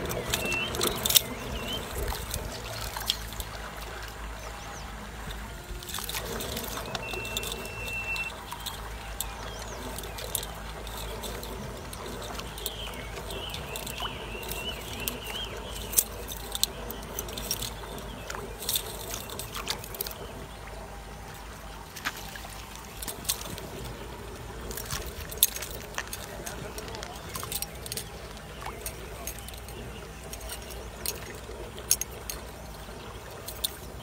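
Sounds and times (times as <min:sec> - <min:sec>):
sharp drips and clicks: 0:00.0 - 0:34.0
water trickling off net: 0:00.0 - 0:34.0.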